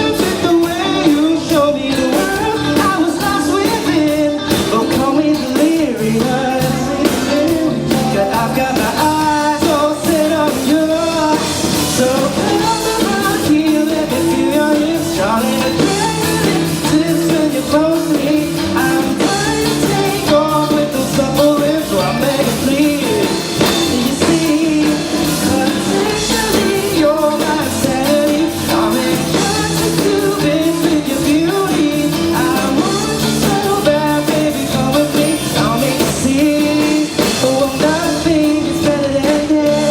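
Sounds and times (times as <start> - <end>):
drum kit: 0.0 - 39.9
electric guitar: 0.0 - 39.9
lead singer singing: 0.0 - 39.9
pop-rock band playing live: 0.0 - 39.9.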